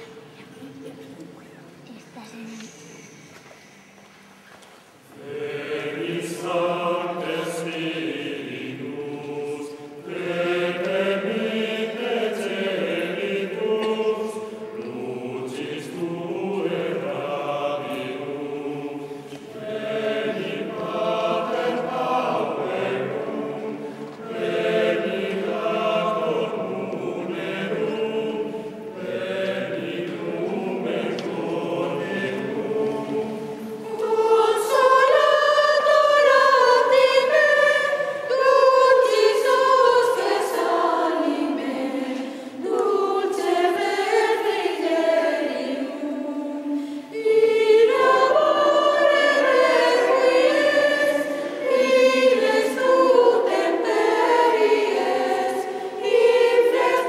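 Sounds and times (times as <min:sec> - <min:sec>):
mixed choir singing: 0:05.1 - 0:57.0.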